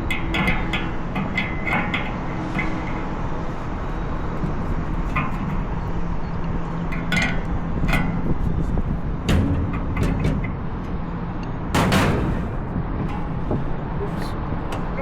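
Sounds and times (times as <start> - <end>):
background rumble: 2.2 - 15.0.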